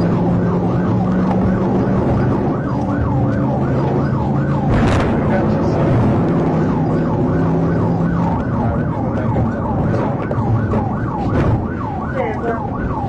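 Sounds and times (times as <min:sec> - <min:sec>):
engine and road rumble: 0:00.0 - 0:13.0
siren yelping: 0:00.0 - 0:13.0.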